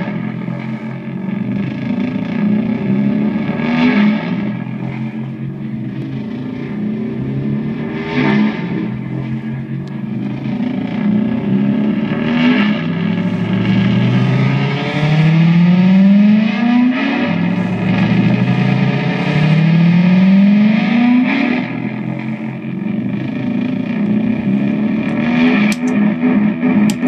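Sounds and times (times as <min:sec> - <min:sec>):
pitch-rising electronic feedback: 0:02.8 - 0:25.9.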